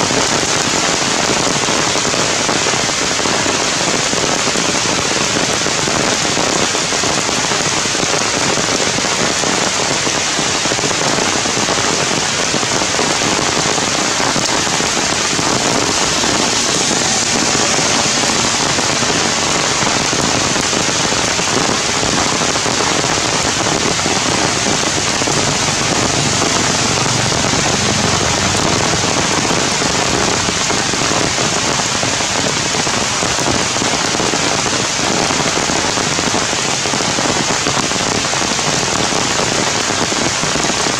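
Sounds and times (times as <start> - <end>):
heavy rain on tree leaves: 0.0 - 40.9.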